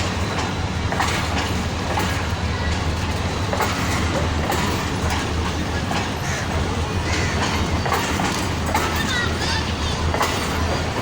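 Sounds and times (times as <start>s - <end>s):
train rumbling on track: 0.0s - 11.0s
wheels clicking over rails: 0.0s - 11.0s.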